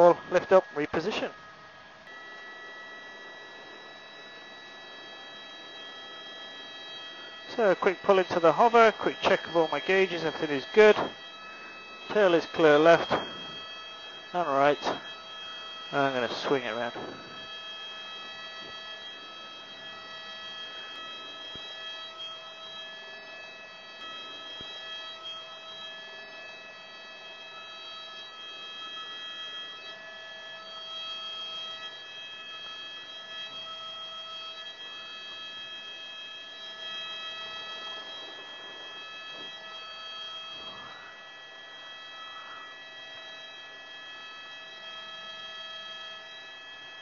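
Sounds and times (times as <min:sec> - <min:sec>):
helicopter engine high whine: 0:00.0 - 0:47.0.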